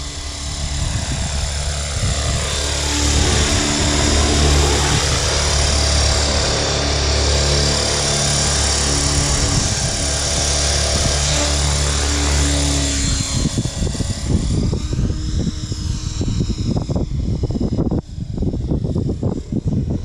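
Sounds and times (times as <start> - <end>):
model helicopter hovering hum: 0.0 - 20.0
wind buffeting microphone: 0.0 - 20.0.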